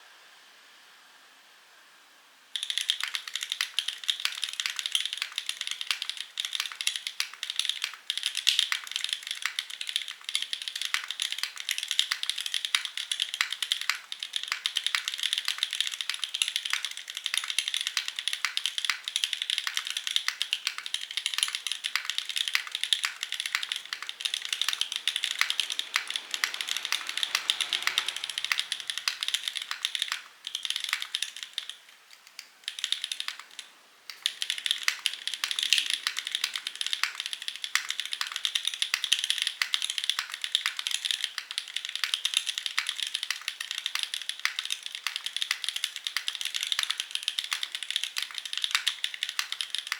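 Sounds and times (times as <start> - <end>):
fast typing on mechanical keyboard: 2.6 - 49.9.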